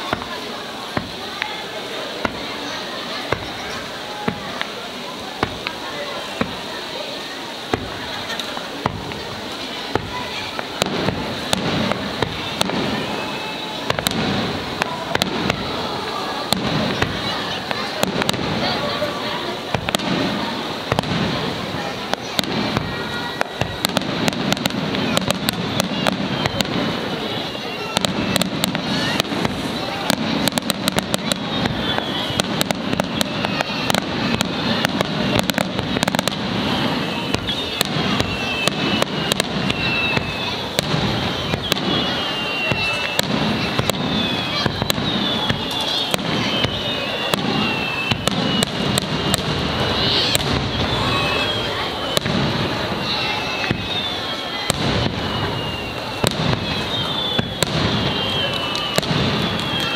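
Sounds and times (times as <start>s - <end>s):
fireworks bursting with bangs: 0.0s - 59.9s
steady background noise: 0.0s - 59.9s
steady hiss: 0.0s - 59.9s.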